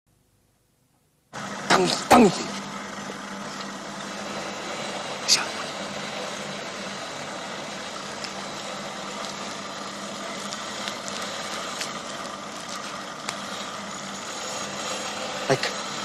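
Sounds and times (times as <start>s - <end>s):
workshop machinery hum: 0.1s - 16.0s.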